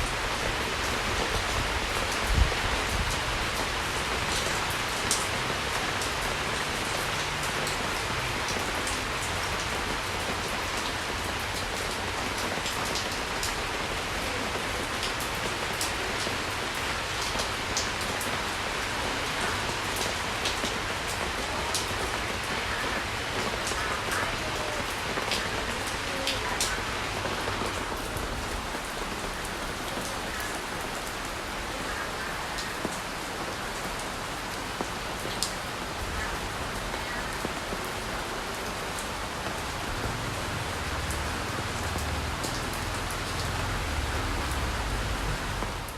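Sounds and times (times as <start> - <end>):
rain drops pattering: 0.0 - 45.9
steady rain falling: 0.0 - 45.9.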